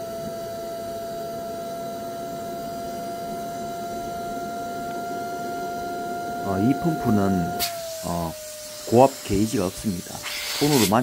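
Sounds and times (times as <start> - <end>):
electric air pump humming: 0.0 - 11.0.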